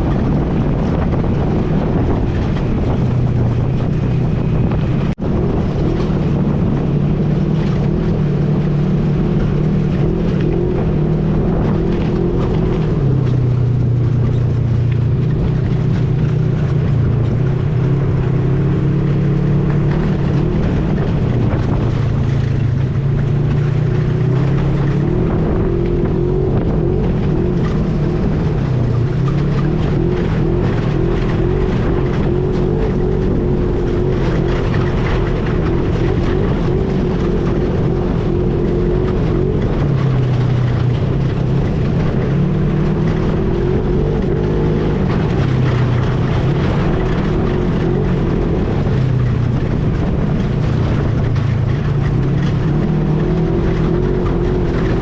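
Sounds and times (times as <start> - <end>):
atv engine running: 0.0 - 55.0
steady rush of noise: 0.0 - 55.0.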